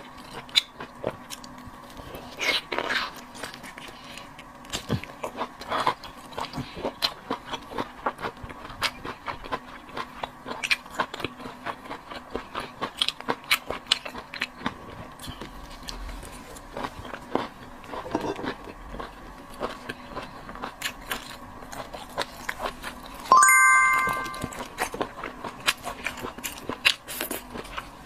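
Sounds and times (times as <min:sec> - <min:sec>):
chewing crunchy seafood: 0:00.0 - 0:23.3, 0:24.8 - 0:28.0.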